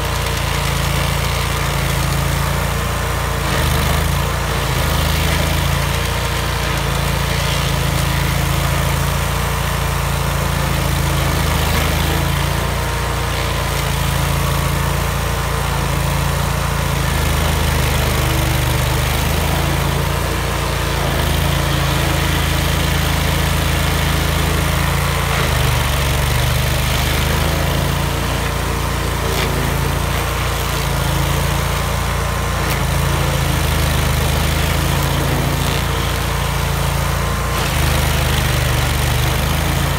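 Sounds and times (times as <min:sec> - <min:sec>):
stump grinder grinding: 0:00.0 - 0:39.9.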